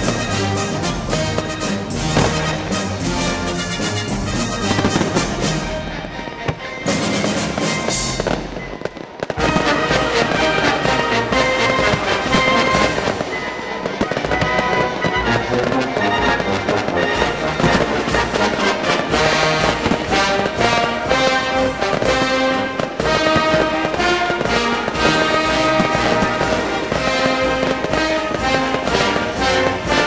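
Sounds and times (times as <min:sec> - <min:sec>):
fireworks bursting: 0:00.0 - 0:30.0
music: 0:00.0 - 0:30.0.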